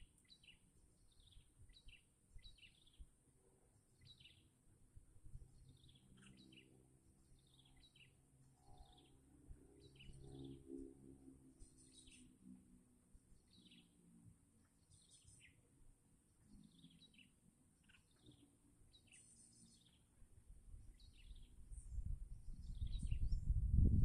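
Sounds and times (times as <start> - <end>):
bird chirping: 0.0 - 3.1, 3.9 - 4.6, 5.5 - 10.9, 11.6 - 12.6, 13.3 - 15.8, 16.4 - 23.9.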